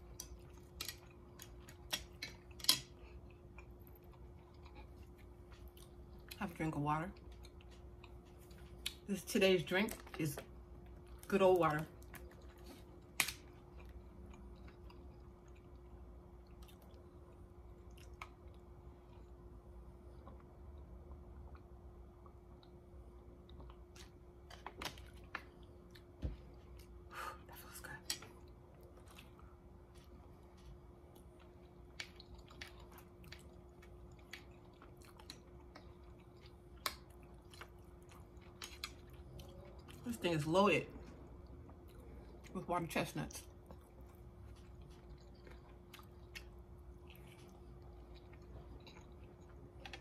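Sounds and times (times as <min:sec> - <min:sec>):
person chewing food: 0:00.0 - 0:06.4, 0:07.1 - 0:09.1, 0:09.9 - 0:40.0, 0:40.9 - 0:42.5, 0:43.4 - 0:50.0
steady low hum: 0:00.0 - 0:50.0.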